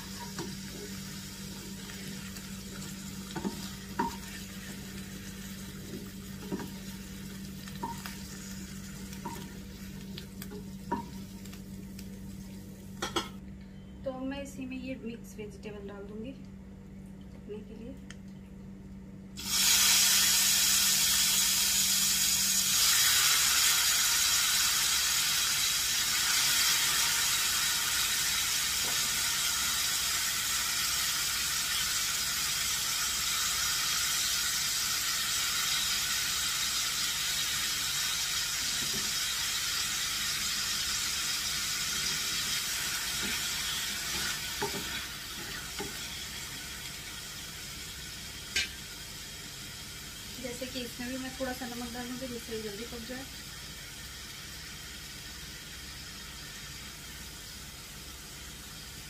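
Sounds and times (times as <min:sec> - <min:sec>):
vegetables sizzling in oil: 0:00.0 - 0:13.2, 0:19.4 - 0:59.0.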